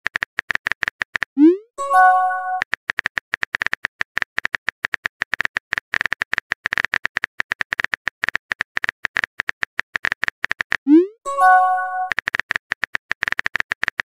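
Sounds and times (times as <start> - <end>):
keyboard typing clicks: 0.2 - 14.0.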